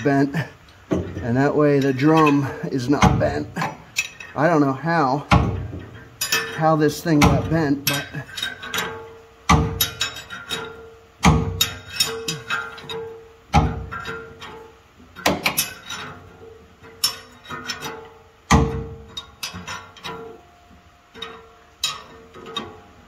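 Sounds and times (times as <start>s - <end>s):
socket wrench clanking on metal: 0.0s - 23.0s.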